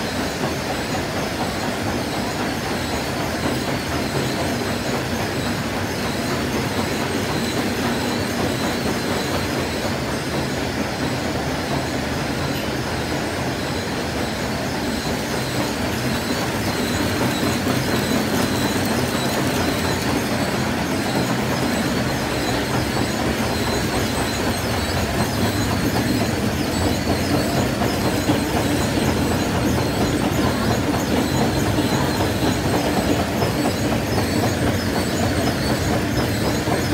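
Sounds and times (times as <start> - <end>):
production line rattling and humming: 0.0 - 36.9.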